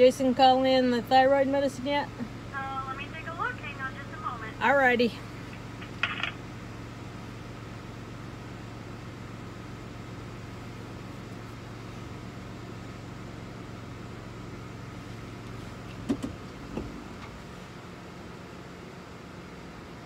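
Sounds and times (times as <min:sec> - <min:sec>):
vehicle idling hum: 0:00.0 - 0:20.0.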